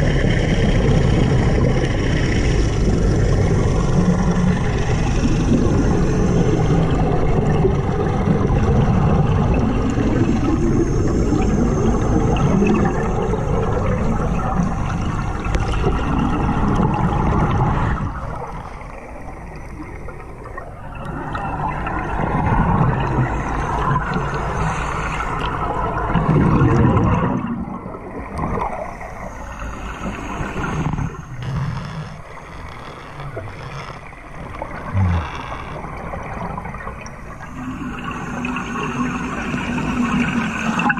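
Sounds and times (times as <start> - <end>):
underwater exhaled air bubbling: 0.0 - 40.9.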